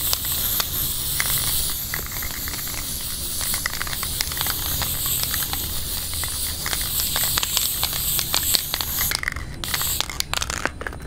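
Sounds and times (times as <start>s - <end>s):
pressurised gas hissing: 0.0s - 10.7s.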